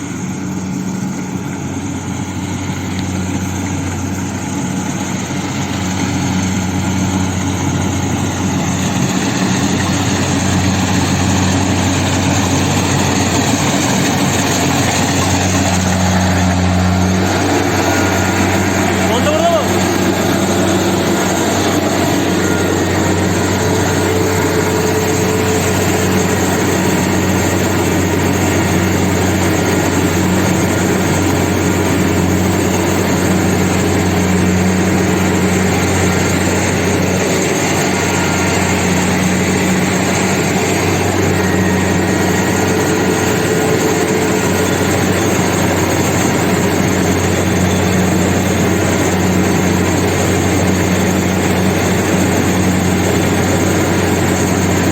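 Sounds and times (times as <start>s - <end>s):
busy mechanical noise: 0.0s - 54.9s
combine harvester engine hum: 0.0s - 54.9s.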